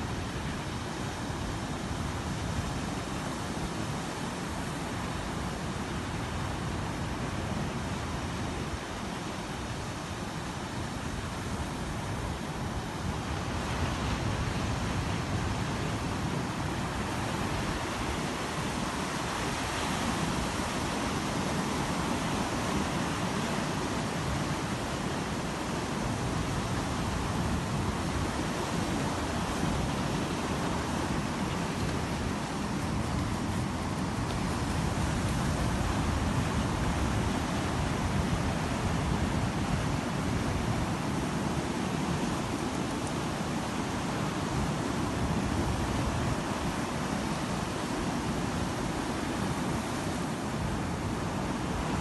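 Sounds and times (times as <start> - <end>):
ocean surf breaking on sand: 0.0 - 52.0.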